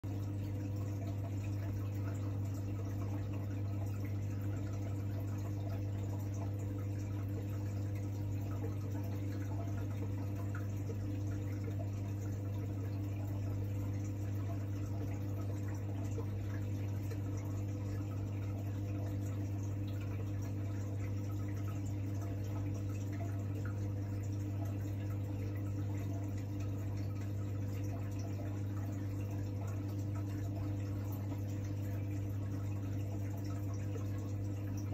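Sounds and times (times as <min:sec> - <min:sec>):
aquarium pumps humming: 0:00.0 - 0:34.9.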